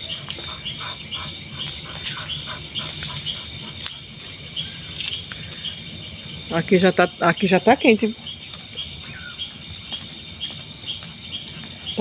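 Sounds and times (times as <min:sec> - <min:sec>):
chorus of crickets: 0:00.0 - 0:12.0.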